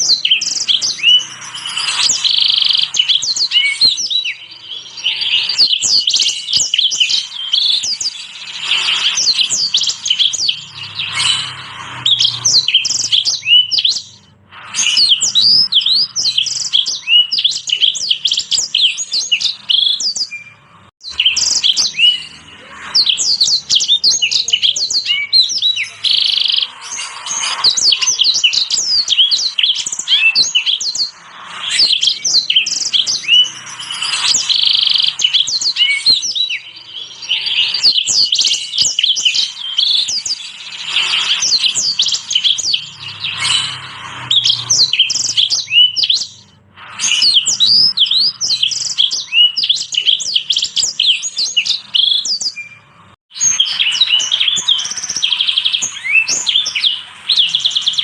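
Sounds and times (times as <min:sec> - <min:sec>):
finches and canaries singing: 0:00.0 - 0:58.0.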